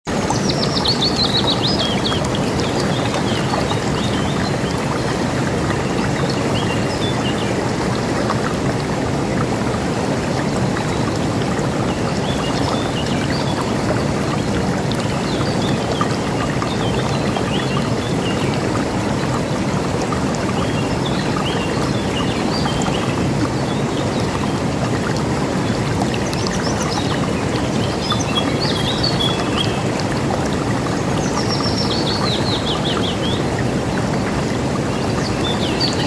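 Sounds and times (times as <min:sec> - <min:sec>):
river rushing: 0:00.1 - 0:36.0.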